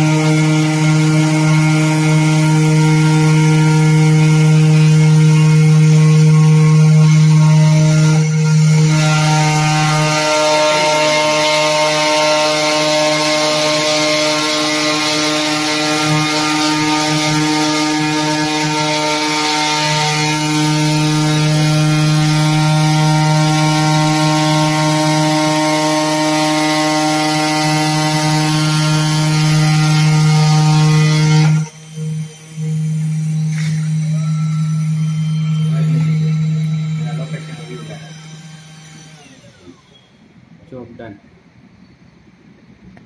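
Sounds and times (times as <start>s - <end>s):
spindle motor humming: 0.0s - 40.8s
stepper motors whining: 0.0s - 43.0s.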